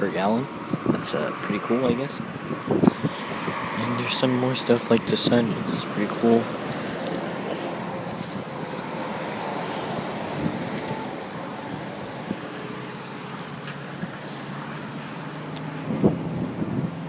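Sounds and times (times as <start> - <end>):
road traffic noise: 0.0 - 17.0
wind buffeting microphone: 0.5 - 14.3, 15.6 - 17.0.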